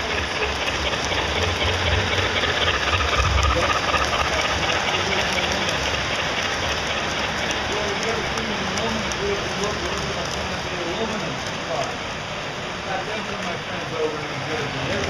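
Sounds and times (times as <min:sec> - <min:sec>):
low mechanical rumble: 0:00.0 - 0:13.8.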